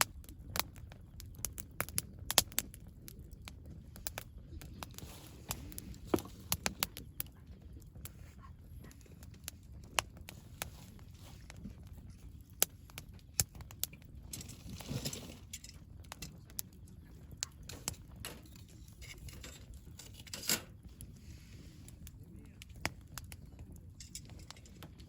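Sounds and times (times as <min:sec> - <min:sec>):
campfire crackling: 0:00.0 - 0:25.0
campfire pops: 0:00.0 - 0:25.0.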